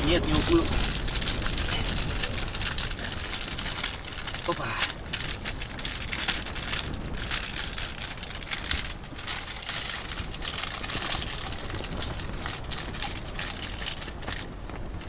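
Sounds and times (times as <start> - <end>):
tent fabric flapping in wind: 0.0 - 15.0.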